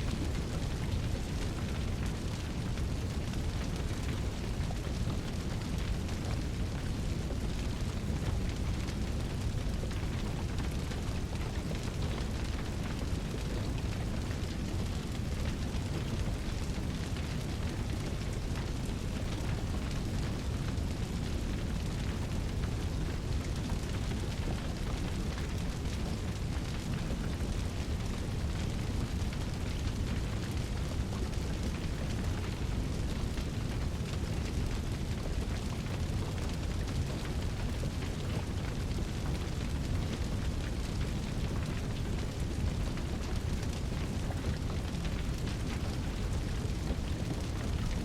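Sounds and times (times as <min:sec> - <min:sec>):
low rumble of burning flames: 0:00.0 - 0:48.0.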